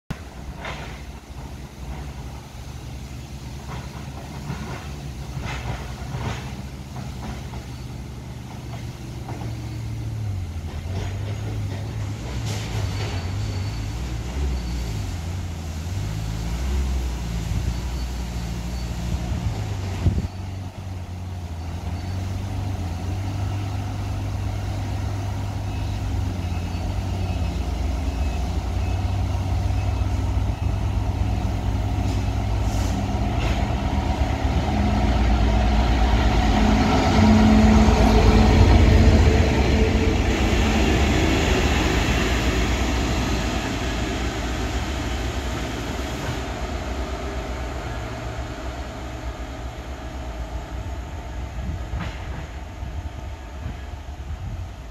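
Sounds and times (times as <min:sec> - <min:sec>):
diesel locomotive engines: 0:00.1 - 0:54.9.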